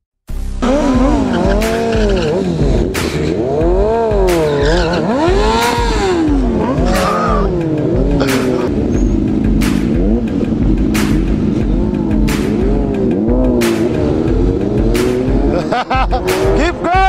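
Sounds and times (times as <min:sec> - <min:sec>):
motorcycle engine revving: 0:00.5 - 0:17.0.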